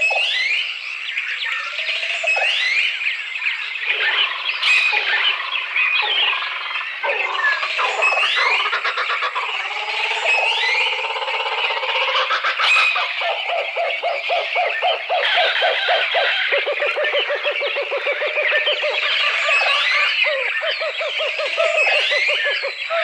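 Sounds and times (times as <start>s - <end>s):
tropical bird and animal calls: 0.0s - 23.0s.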